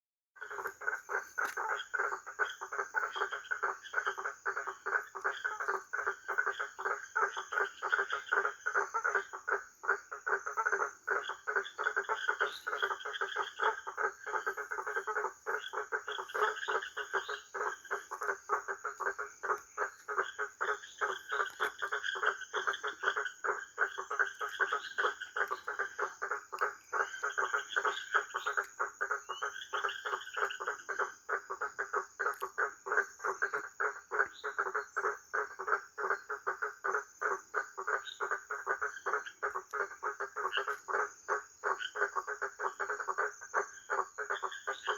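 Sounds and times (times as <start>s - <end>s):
frogs croaking: 0.4s - 44.9s
higher frog trills: 0.4s - 44.9s.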